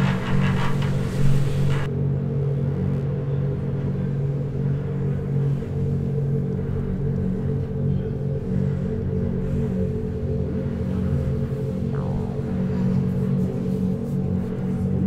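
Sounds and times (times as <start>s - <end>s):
dark ambient drone music: 0.0s - 15.0s.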